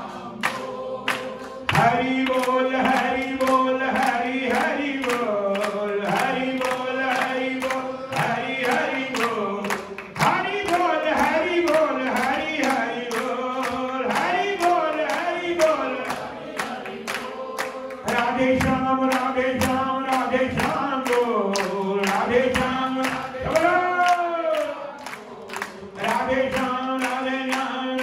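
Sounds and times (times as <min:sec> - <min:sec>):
group singing a chant: 0:00.0 - 0:28.0.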